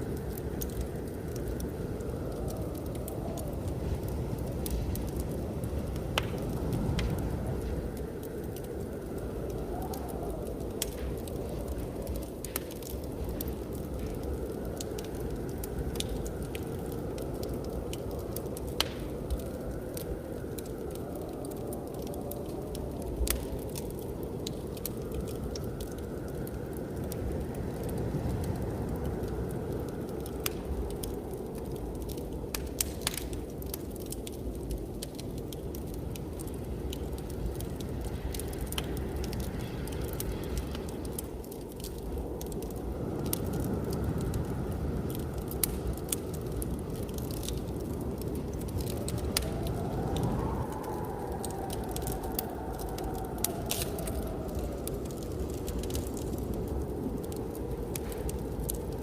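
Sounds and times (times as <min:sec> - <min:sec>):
blizzard wind rushing: 0:00.0 - 0:59.0
wood fire crackling and popping: 0:00.0 - 0:59.0.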